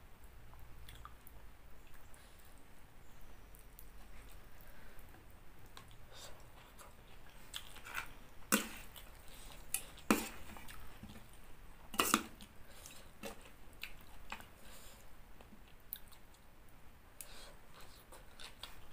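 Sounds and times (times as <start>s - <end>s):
chewing food: 0.5s - 2.6s, 3.5s - 16.5s, 17.2s - 18.9s.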